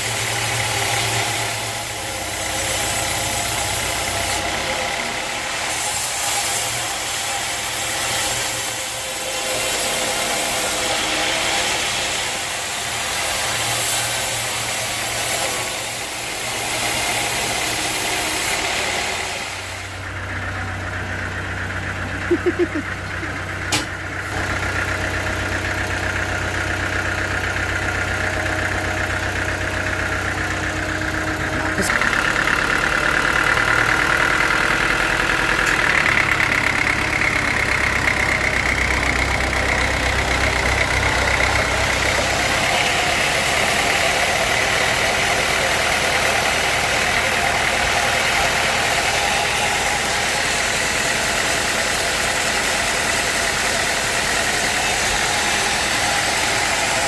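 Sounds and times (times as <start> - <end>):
hissy noisy sound: 0.0 - 57.0
sawmill engine running: 0.0 - 57.0.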